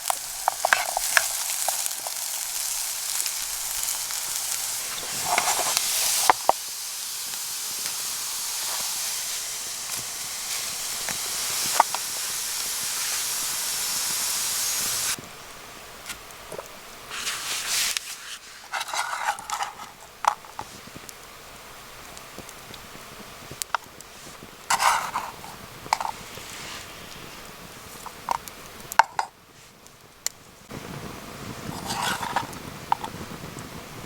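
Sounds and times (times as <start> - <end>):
food sizzling in a frying pan: 0.0 - 15.3, 16.5 - 29.6, 30.7 - 34.0.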